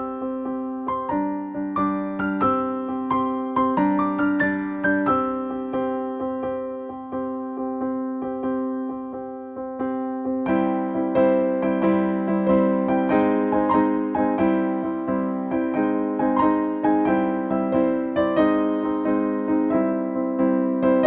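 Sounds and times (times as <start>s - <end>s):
gentle electric piano melody: 0.0s - 21.0s.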